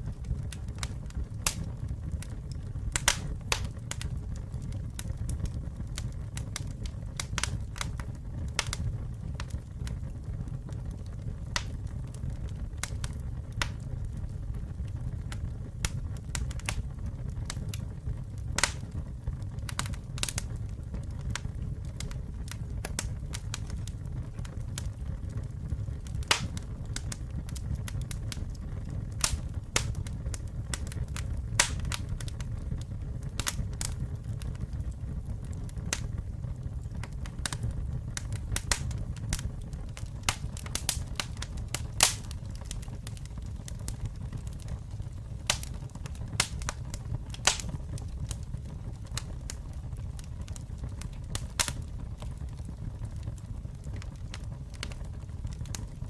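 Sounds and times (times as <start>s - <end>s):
campfire flames rumbling: 0.0s - 56.0s
wood crackling and popping: 0.0s - 56.0s.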